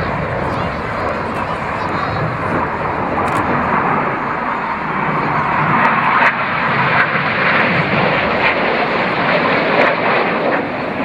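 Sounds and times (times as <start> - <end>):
jet engine noise: 0.0 - 11.0.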